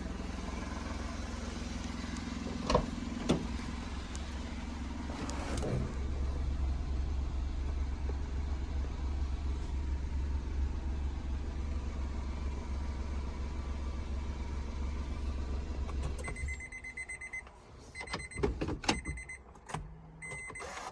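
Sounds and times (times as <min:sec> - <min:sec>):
small car engine idling: 0:00.0 - 0:18.0.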